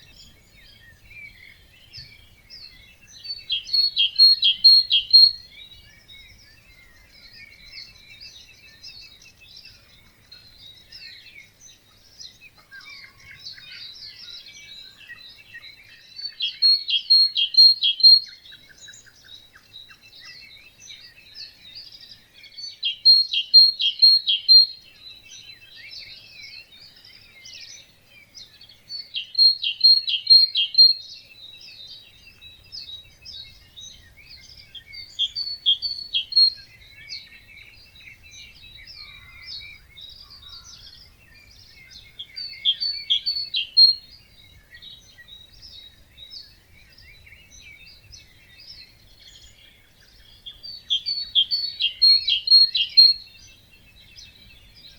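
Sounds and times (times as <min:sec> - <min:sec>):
chorus of birds singing: 0:00.0 - 0:54.9
nearby bird repeating song: 0:00.0 - 0:54.9.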